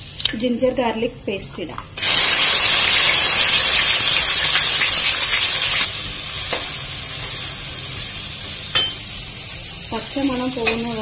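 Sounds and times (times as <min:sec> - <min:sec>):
paste sizzling in oil: 0:02.0 - 0:11.0.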